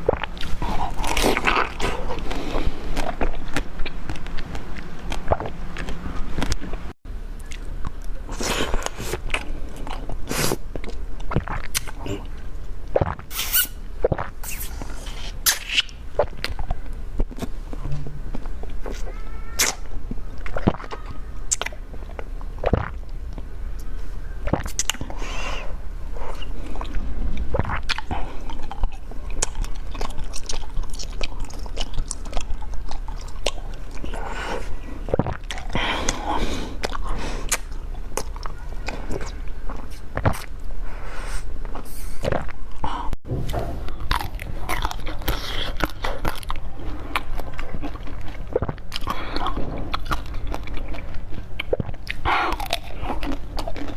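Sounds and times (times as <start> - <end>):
crunchy chewing: 0.0 - 40.8, 41.6 - 53.9.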